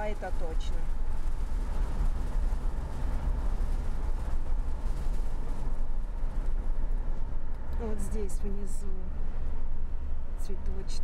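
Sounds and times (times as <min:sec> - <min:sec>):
car road rumble from inside: 0:00.0 - 0:11.0.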